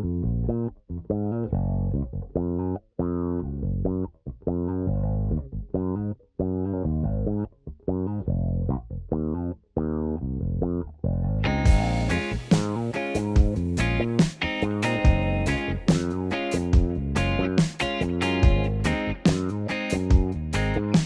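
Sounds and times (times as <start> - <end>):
plucked bass line music: 0.0 - 21.0.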